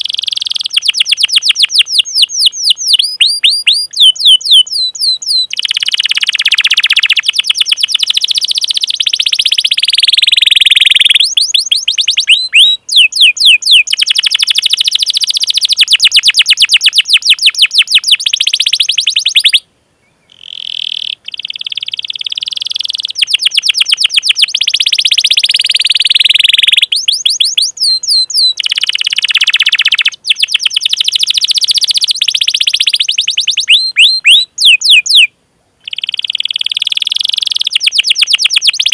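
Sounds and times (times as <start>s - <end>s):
canary singing trills and chirps: 0.0s - 38.9s.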